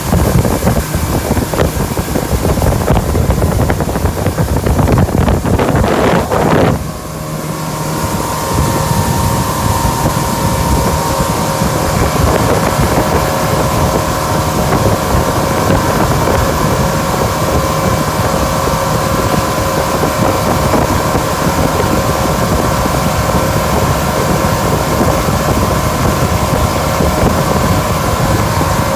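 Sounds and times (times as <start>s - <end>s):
droning motor hum: 0.0s - 28.9s
wind buffeting microphone: 0.0s - 28.9s.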